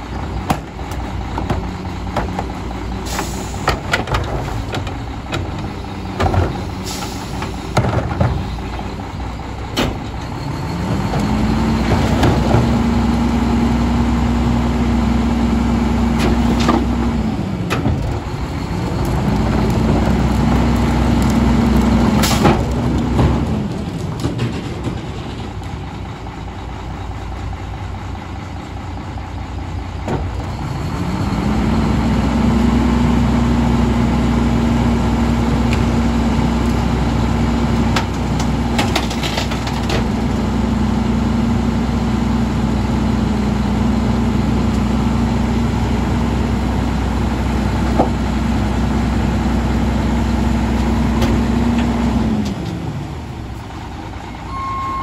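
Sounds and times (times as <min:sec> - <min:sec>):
garbage truck diesel engine: 0:00.0 - 0:55.0.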